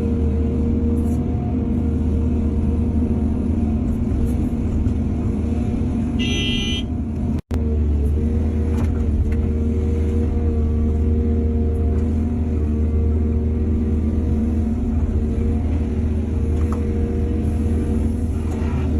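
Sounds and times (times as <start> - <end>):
diesel engine rumbling: 0.0 - 18.9.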